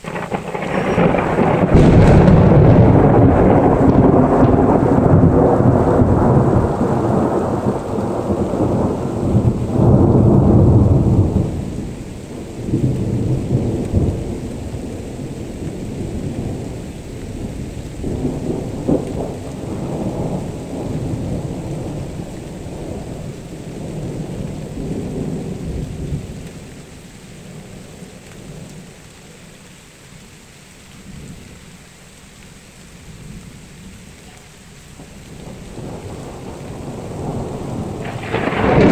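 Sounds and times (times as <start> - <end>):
rolling thunder: 0.0 - 28.8, 34.9 - 38.9
rain hissing: 0.0 - 38.9.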